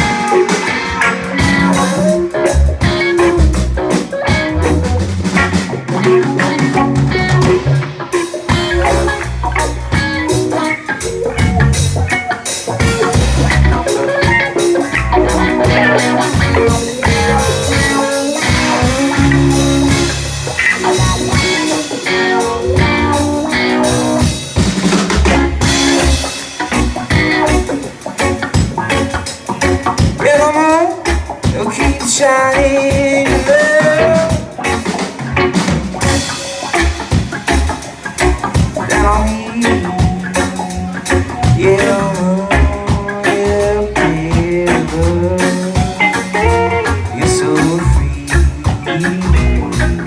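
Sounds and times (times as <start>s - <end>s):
reggae band playing instrumental: 0.0s - 50.0s.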